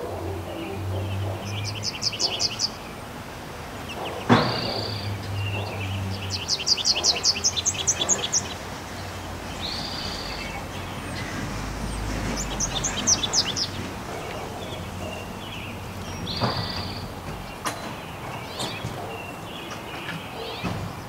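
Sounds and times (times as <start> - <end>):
songbird trill: 0.0 - 3.1, 3.8 - 20.8.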